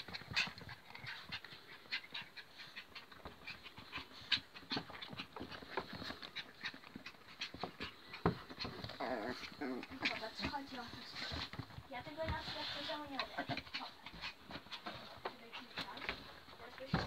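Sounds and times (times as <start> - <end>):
dogs breathing quickly: 0.0 - 17.0
dogs scuffling: 0.0 - 17.0.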